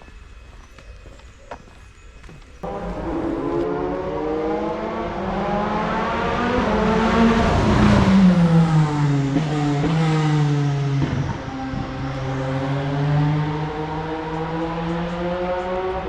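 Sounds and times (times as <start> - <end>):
racing car engine passing by: 2.6 - 16.0.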